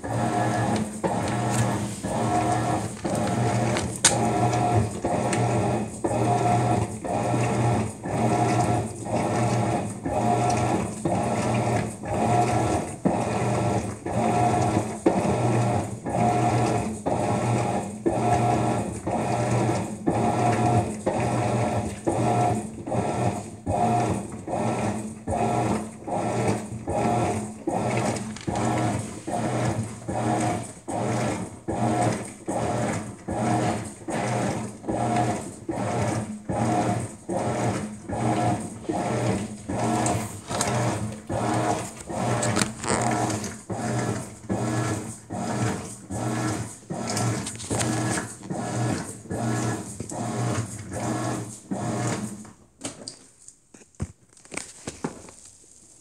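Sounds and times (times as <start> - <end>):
washing machine motor humming: 0.0 - 52.7
water churning in washing machine: 0.0 - 53.2.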